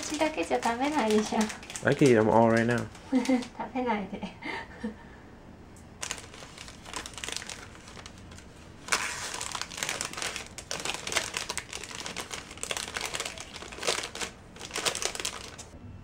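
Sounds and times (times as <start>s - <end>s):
plastic bags crinkling: 0.0s - 3.6s, 6.0s - 15.8s.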